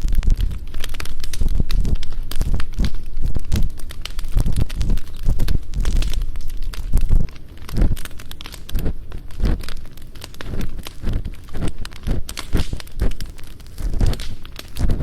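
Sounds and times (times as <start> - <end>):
campfire crackling: 0.0 - 15.0
ear pick scraping: 0.0 - 15.0.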